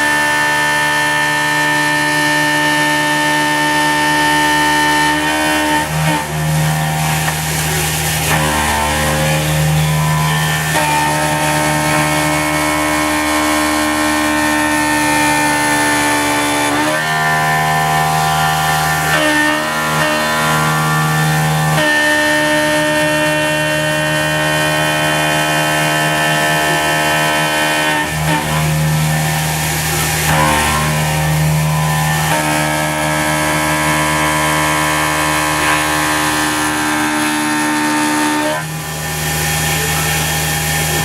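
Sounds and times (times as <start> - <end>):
milling machine cutting metal: 0.0 - 41.0.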